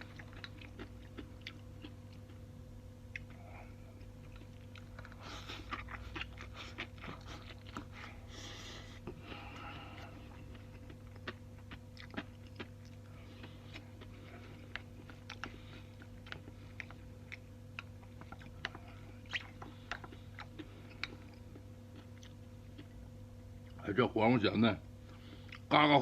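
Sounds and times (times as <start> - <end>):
person chewing food: 0.0 - 23.8, 25.0 - 25.8.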